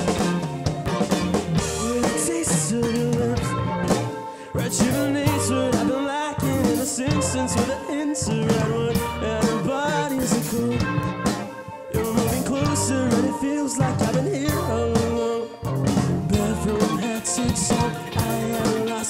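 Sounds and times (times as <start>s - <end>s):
drum kit with cymbals: 0.0s - 19.0s
electric guitar: 0.0s - 19.0s
person singing: 0.0s - 19.0s.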